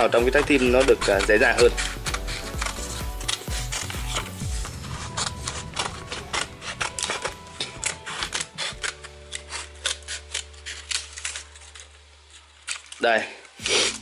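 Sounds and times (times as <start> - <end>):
scissors snipping paper: 0.0 - 14.0.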